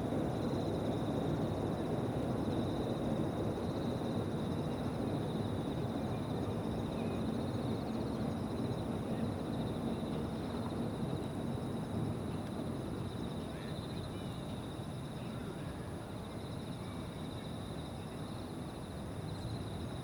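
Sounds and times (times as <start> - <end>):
insects trilling: 0.1 - 20.0.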